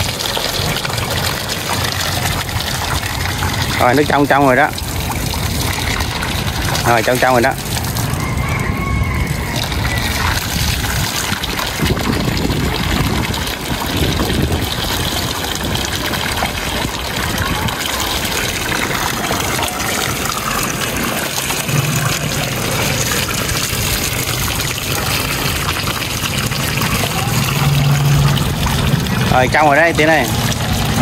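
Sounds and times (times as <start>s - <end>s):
water gushing from a tank: 0.0s - 31.0s.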